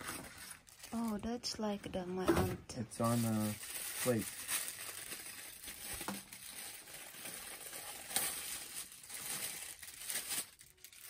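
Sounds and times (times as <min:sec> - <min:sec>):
plastic bag crinkling: 0:00.0 - 0:01.2, 0:03.0 - 0:11.0.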